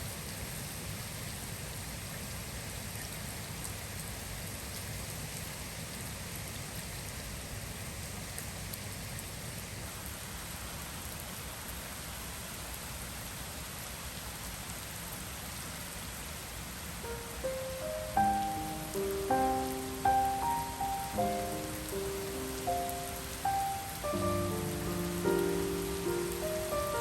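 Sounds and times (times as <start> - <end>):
heavy rain falling: 0.1 - 27.0.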